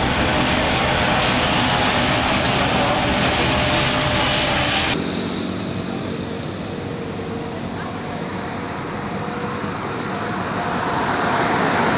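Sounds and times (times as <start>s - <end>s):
jet engines running: 0.0s - 11.9s.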